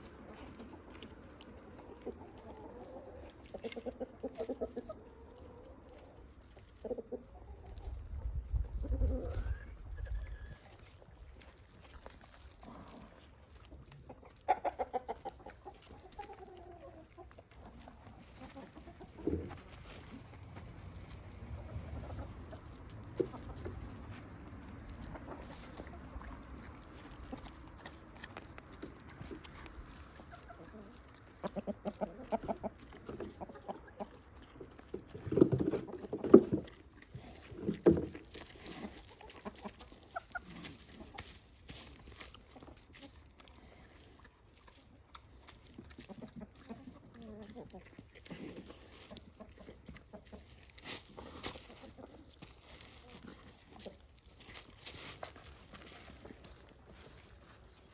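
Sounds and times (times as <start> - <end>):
chicken clucking: 0.0 - 11.1, 12.6 - 57.9.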